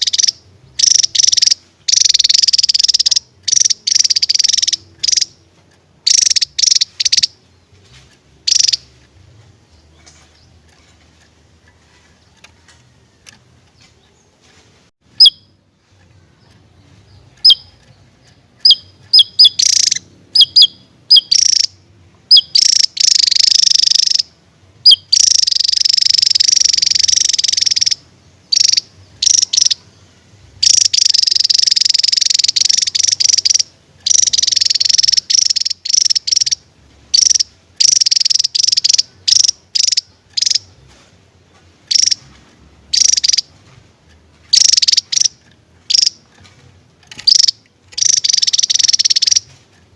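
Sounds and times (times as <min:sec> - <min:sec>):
bird singing: 0:00.0 - 0:49.5.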